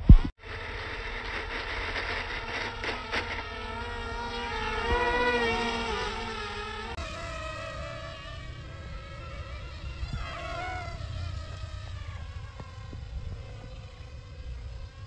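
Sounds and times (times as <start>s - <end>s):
model plane motors whining: 0.4s - 15.0s.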